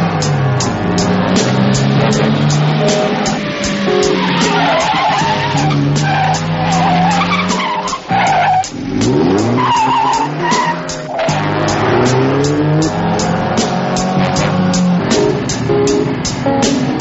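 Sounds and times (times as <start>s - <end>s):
car tyres squealing: 0.0s - 17.0s
engines running hard: 0.0s - 17.0s.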